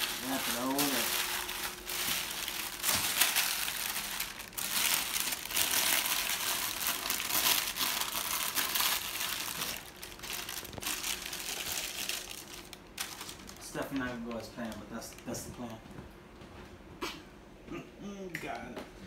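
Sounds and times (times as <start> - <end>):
wax paper crinkling: 0.0 - 15.8.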